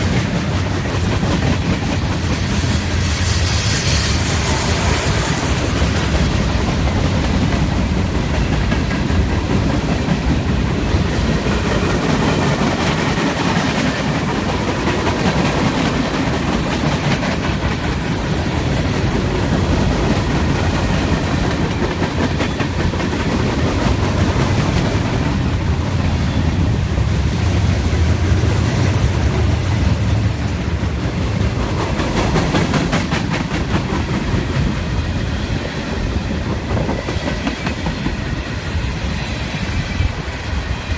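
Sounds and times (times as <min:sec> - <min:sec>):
freight train rumbling past: 0:00.0 - 0:40.9
steel wheels clattering on rails: 0:00.0 - 0:40.9.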